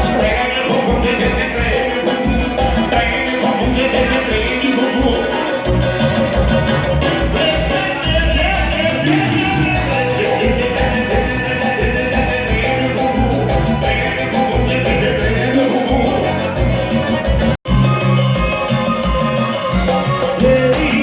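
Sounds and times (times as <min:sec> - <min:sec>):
upbeat instrumental dance music: 0:00.0 - 0:21.0.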